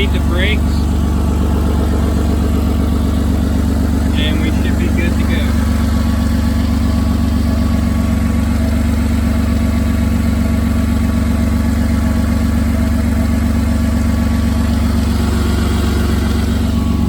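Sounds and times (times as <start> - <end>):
loud car engine idling: 0.0 - 17.0.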